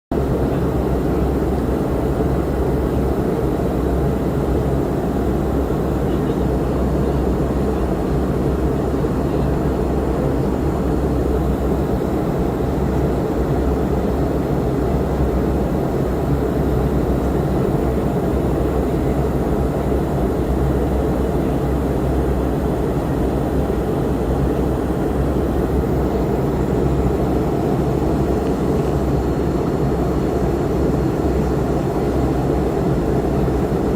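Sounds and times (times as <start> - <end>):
jet engine and airflow rush: 0.1 - 33.9.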